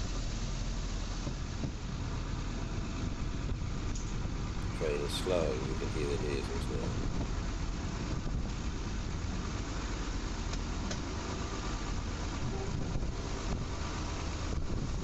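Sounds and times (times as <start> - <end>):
railcar diesel engine drone: 0.0 - 15.0
train running noise: 0.0 - 15.0.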